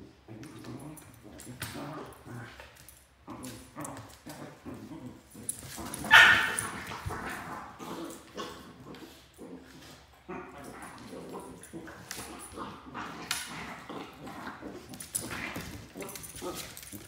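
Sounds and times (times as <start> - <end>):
dogs play growling: 0.0 - 17.0.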